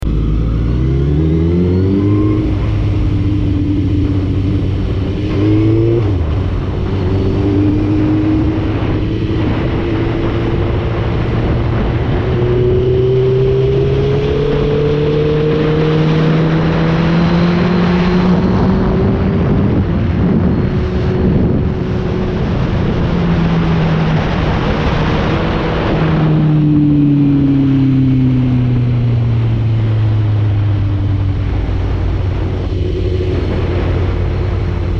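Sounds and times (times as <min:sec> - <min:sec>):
motorcycle engine revving: 0:00.0 - 0:34.9
wind rush: 0:00.1 - 0:34.9.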